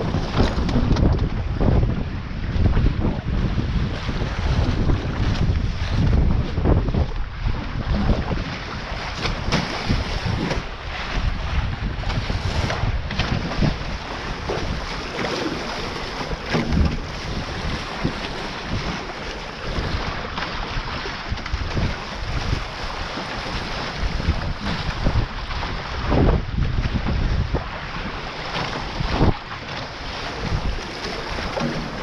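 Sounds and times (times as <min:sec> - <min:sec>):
water rushing past hull: 0:00.0 - 0:32.0
wind buffeting microphone: 0:00.0 - 0:32.0.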